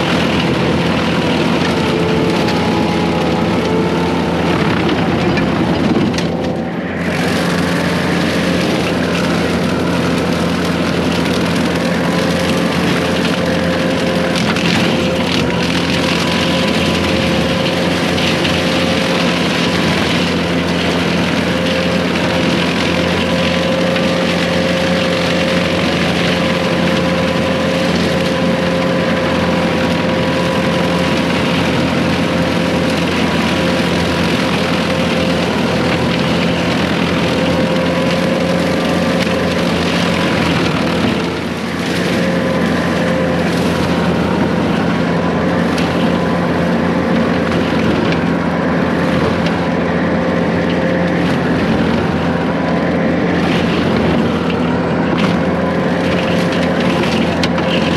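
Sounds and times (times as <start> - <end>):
excavator diesel engine: 0.0 - 57.9
hydraulic brush cutter whine: 0.0 - 57.9.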